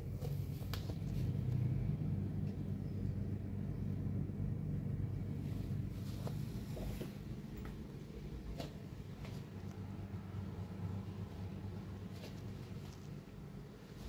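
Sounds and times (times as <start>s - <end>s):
distant city traffic rumble: 0.0s - 14.0s.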